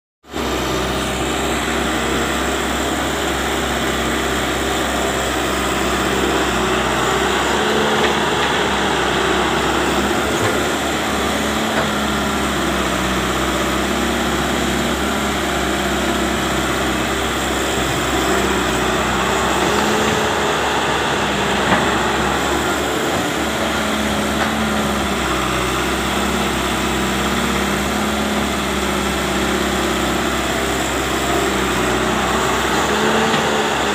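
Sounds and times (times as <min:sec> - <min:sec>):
diesel engines running: 0:00.3 - 0:33.9.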